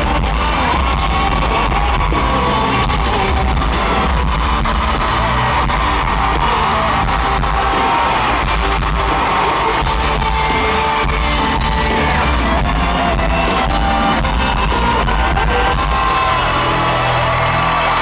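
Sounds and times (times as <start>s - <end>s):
electric guitar: 0.0s - 18.0s
pop-rock band over loudspeakers: 0.0s - 18.0s.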